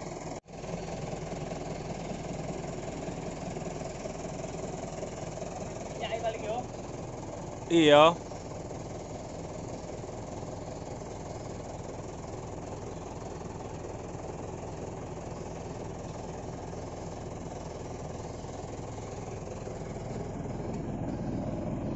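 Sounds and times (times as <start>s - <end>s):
diesel truck engine idling: 0.0s - 21.9s.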